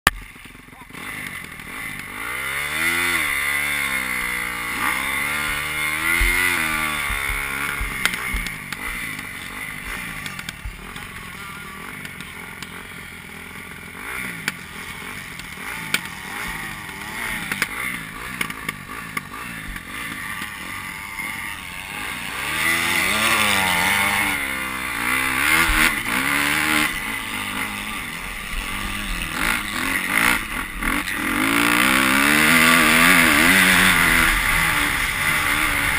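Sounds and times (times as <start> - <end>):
motocross bike engines revving: 0.1 - 35.9.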